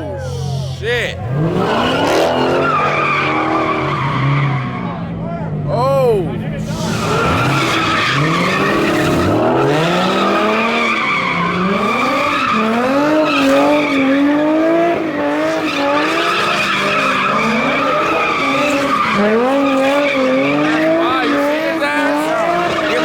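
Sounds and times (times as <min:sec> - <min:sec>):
car engine revving: 0:00.0 - 0:23.0
tires squealing: 0:00.0 - 0:23.0.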